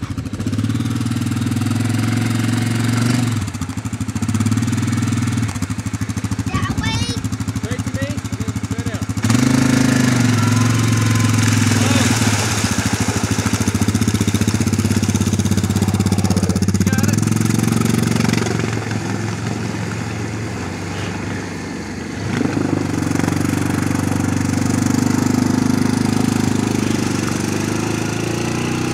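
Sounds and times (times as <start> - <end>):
atv engine under throttle: 0.0 - 28.9
water churning around wheels: 0.0 - 28.9.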